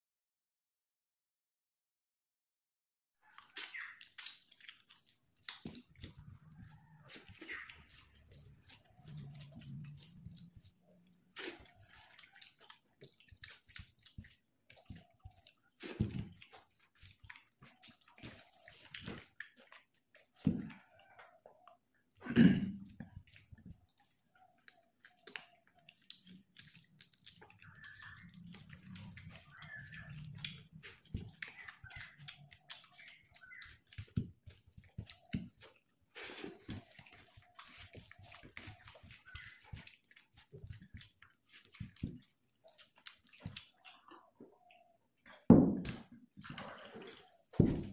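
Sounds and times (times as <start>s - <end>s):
fingers squishing rice: 3.2s - 21.8s, 22.8s - 44.8s
wet chewing and lip-smacking: 3.2s - 45.4s.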